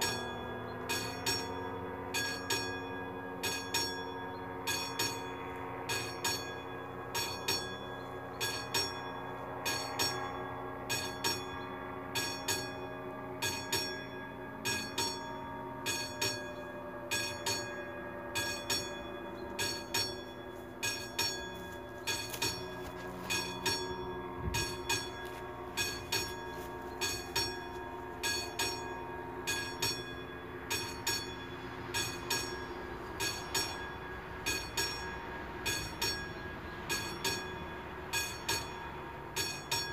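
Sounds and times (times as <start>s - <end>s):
level crossing electric bell ringing: 0.0s - 39.9s
steady humming tones: 0.0s - 39.9s.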